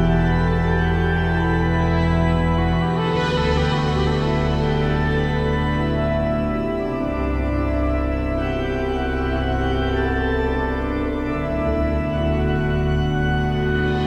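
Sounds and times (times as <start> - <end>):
music of long held chords: 0.0 - 14.0.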